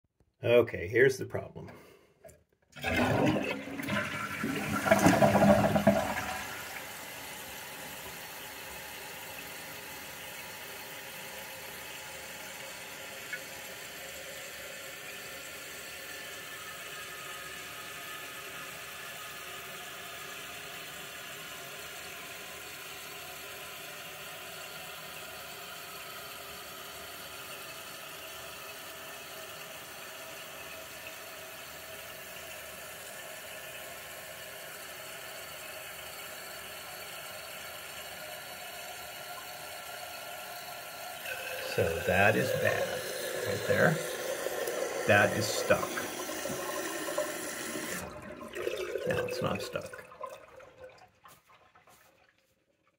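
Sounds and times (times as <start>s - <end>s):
toilet flushing: 2.7s - 52.6s
toilet tank refilling hiss: 2.8s - 52.1s.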